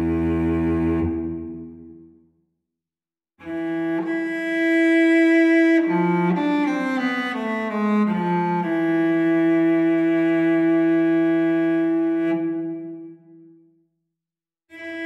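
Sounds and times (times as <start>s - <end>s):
slow bowed string music: 0.0s - 2.1s, 3.4s - 13.4s, 14.7s - 15.0s.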